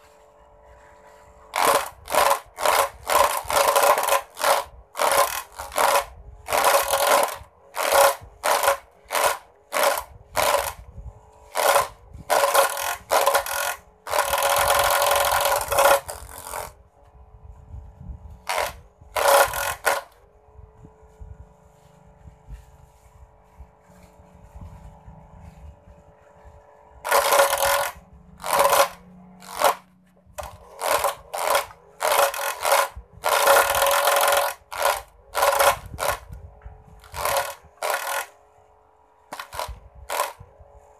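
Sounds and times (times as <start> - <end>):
electric motor whine: 0.0 - 40.9
grass chopper cutting bursts: 0.0 - 40.9.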